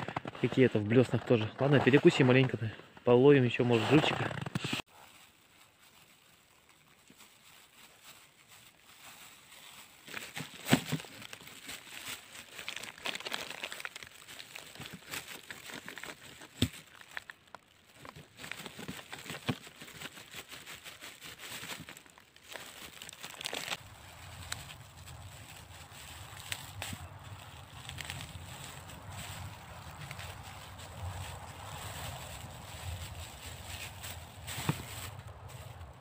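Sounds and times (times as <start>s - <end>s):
plastic food bag crinkling: 4.8s - 36.0s.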